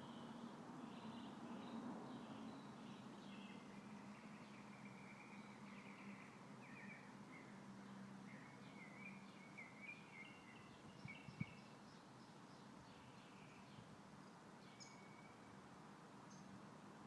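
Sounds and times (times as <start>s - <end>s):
bird chirping: 0.0s - 13.9s, 14.6s - 15.6s, 16.2s - 16.6s
faint outdoor hiss: 0.0s - 17.0s.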